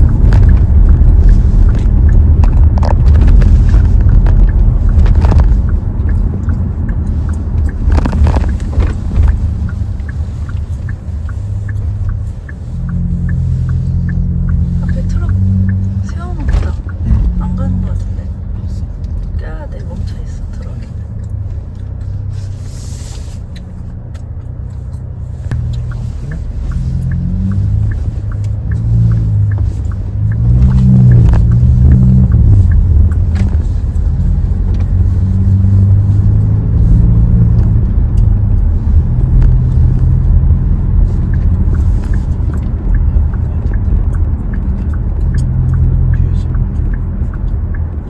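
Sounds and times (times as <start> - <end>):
car engine accelerating: 0.0 - 48.0
turn signal ticking: 0.0 - 48.0.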